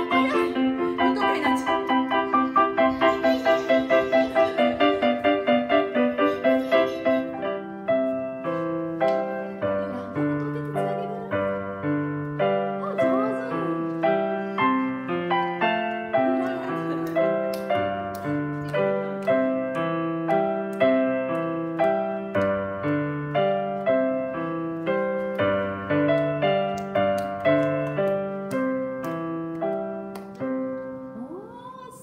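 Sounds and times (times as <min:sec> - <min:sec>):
gentle keyboard melody over chords: 0:00.0 - 0:31.2.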